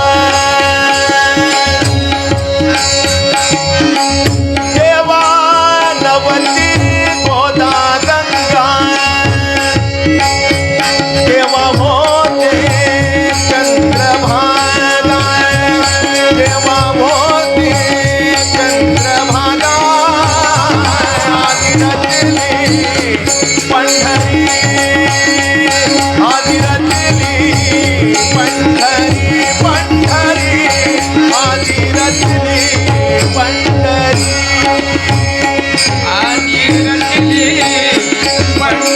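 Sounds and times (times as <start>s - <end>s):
hand drum rhythm: 1.3s - 38.9s.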